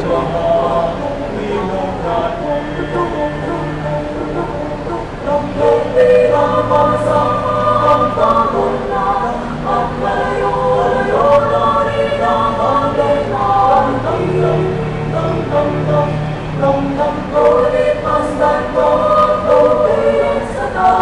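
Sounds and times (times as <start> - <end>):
mixed choir singing in harmony: 0.0 - 21.0.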